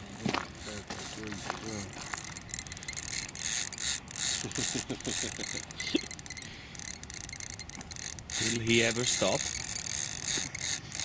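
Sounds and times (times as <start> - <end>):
fishing reel drag clicking: 0.0 - 11.0
short rising squeaks: 2.0 - 11.0.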